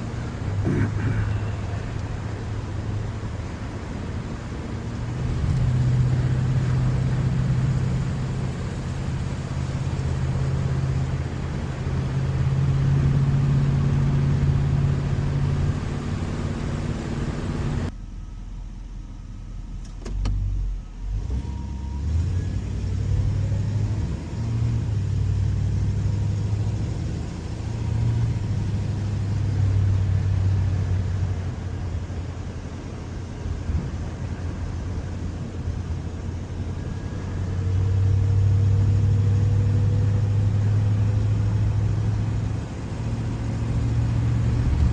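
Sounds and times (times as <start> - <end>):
road noise: 0.0 - 18.0, 19.7 - 44.9
car engine running: 0.0 - 21.2, 22.0 - 44.9.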